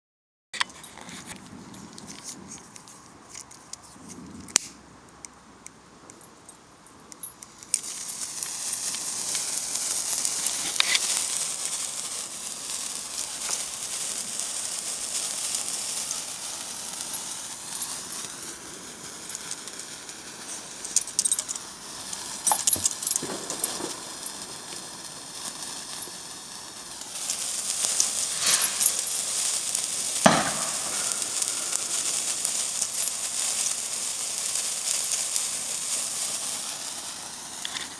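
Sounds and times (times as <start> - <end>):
sparkler fizzing and crackling: 1.2 - 4.8, 7.2 - 37.9.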